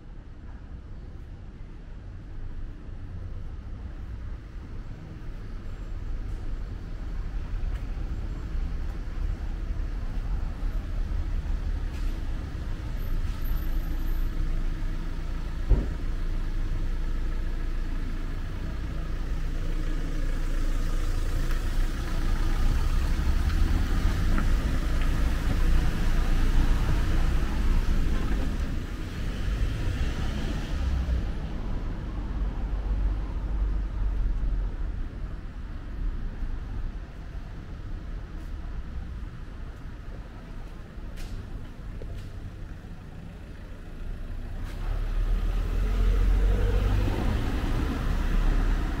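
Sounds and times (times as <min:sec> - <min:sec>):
passing traffic: 0:00.0 - 0:49.0
vehicle engine rumbling: 0:02.0 - 0:49.0.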